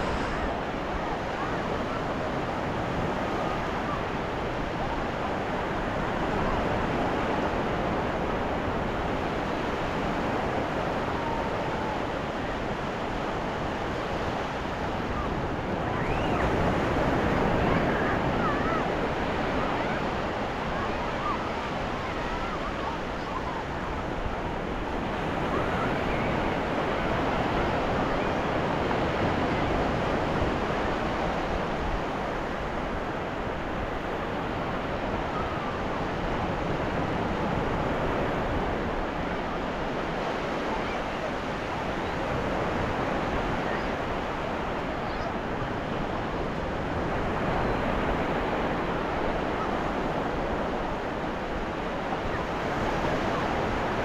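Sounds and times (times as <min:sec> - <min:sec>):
ocean surf on beach: 0:00.0 - 0:54.0.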